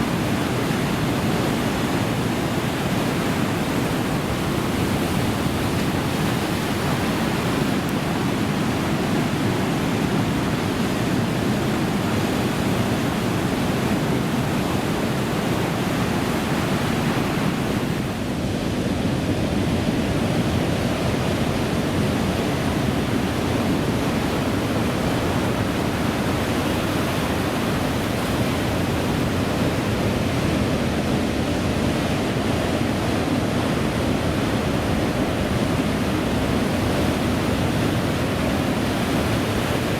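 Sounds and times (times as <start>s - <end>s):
ocean surf: 0.0s - 39.9s
wind: 0.0s - 39.9s.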